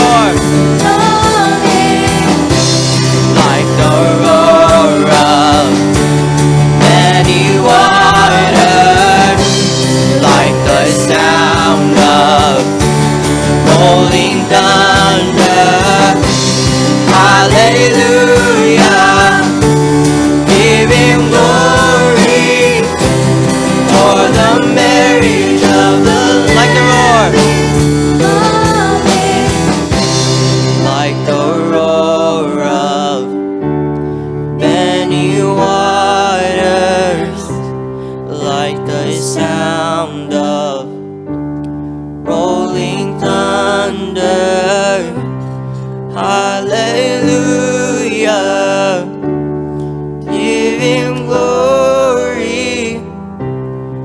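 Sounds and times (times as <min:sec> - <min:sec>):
band playing worship song: 0:00.0 - 0:54.0.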